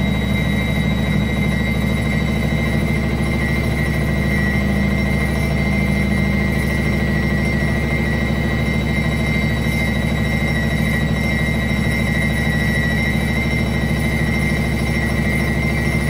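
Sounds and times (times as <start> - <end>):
high whine: 0.0 - 16.0
washing machine spinning: 0.0 - 16.0.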